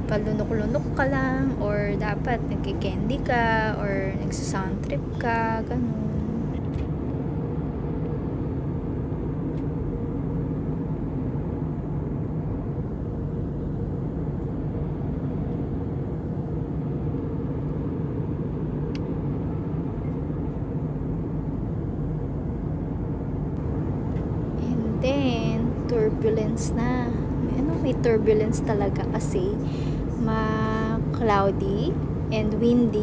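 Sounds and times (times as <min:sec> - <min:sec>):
jet airliner cabin noise: 0:00.0 - 0:33.0.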